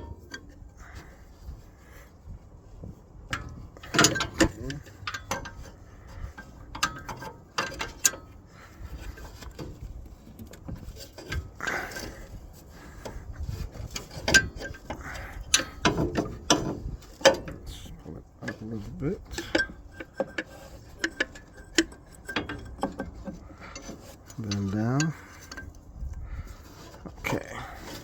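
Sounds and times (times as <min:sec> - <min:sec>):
wrenches clinking on metal bolt: 0:03.3 - 0:25.8.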